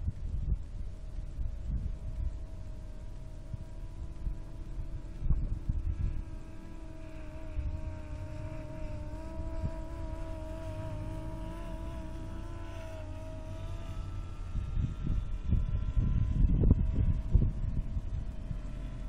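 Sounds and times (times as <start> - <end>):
wind rumble on microphone: 0.0 - 19.0
drone propellers whining: 1.0 - 19.0.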